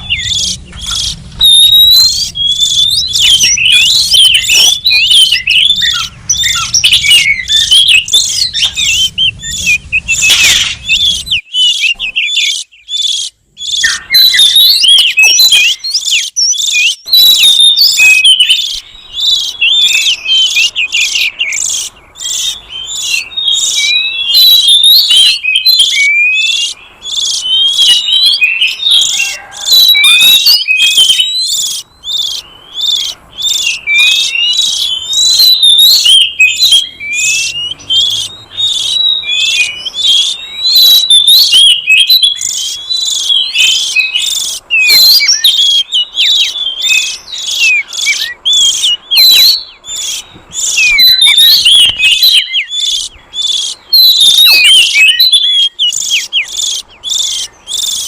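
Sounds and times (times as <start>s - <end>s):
bird singing whistles and chatter: 0.0s - 58.0s.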